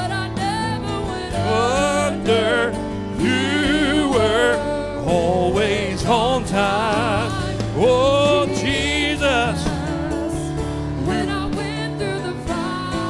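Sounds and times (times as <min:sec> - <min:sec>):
solo voice singing with vibrato: 0:00.0 - 0:13.0.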